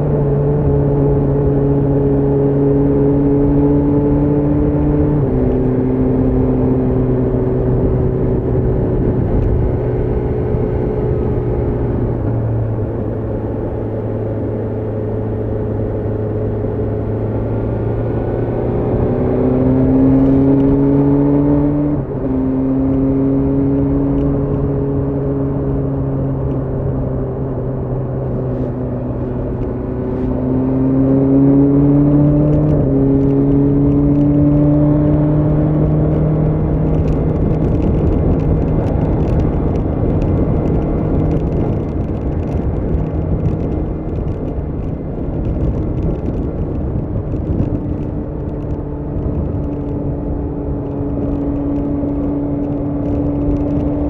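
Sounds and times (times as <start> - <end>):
motorcycle engine shifting gears: 0.0 - 54.0
road noise: 0.0 - 54.0
rushing wind: 0.0 - 54.0.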